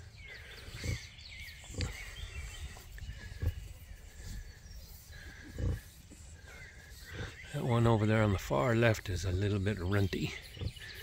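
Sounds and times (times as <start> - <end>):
sow grunting: 0.0 - 11.0.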